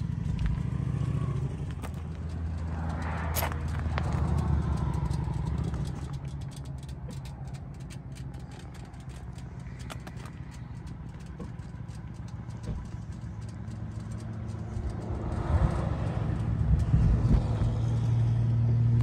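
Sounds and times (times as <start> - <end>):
motorcycle engine idling: 0.0 - 15.4.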